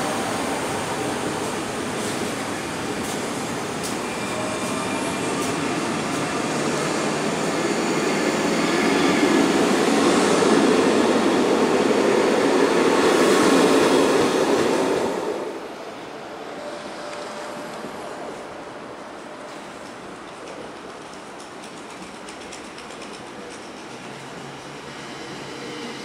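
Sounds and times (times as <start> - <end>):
train wheels rumbling on rails: 0.0 - 15.7, 16.7 - 26.0.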